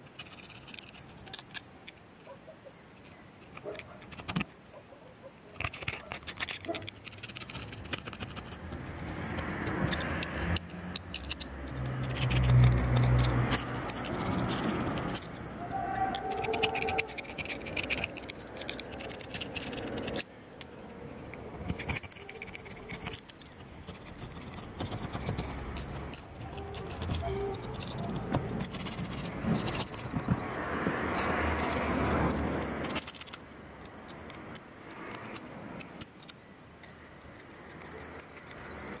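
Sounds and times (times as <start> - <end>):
crickets chirping: 0.0 - 39.0.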